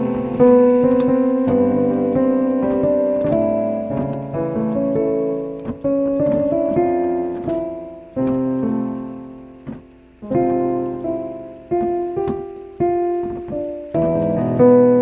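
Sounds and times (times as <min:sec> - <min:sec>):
solo piano chords and melody: 0:00.0 - 0:15.0.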